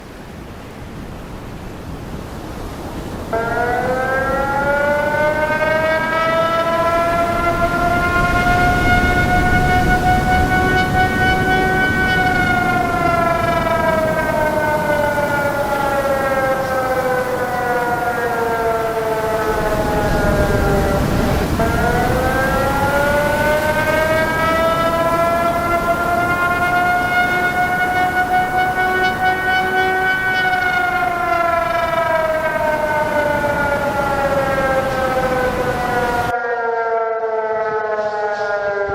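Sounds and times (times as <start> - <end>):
warning siren wailing: 3.0 - 38.9.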